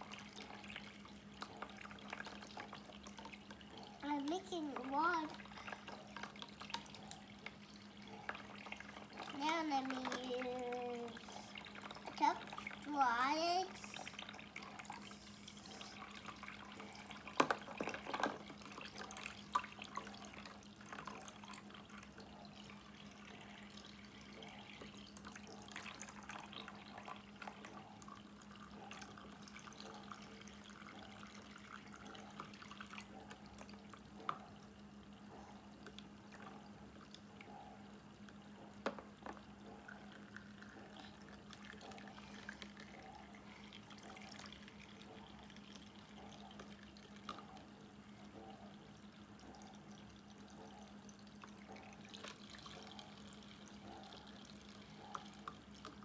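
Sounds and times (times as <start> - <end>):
water trickling from faucet: 0.0 - 56.0.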